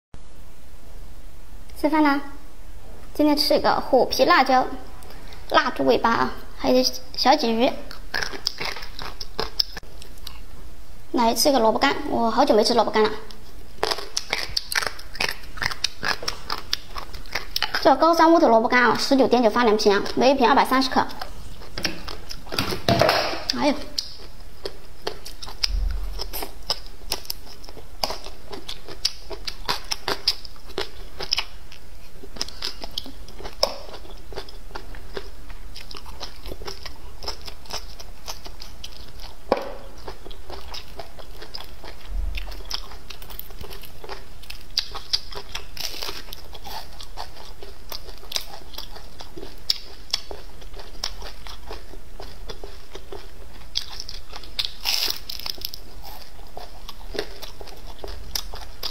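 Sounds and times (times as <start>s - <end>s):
person chewing and crunching: 7.9s - 10.5s, 12.9s - 18.1s, 18.8s - 58.9s.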